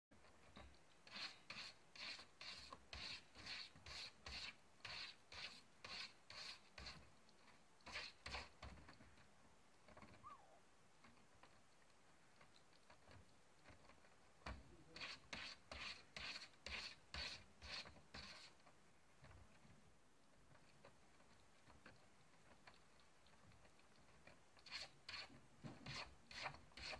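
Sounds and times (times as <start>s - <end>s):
kitten scratching food dish: 0.2s - 26.9s.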